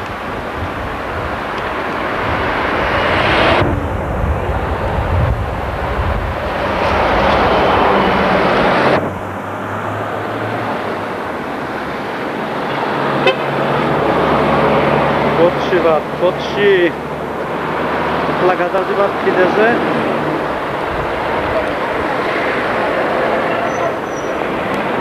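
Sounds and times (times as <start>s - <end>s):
loud rushing outdoor noise: 0.0s - 25.0s.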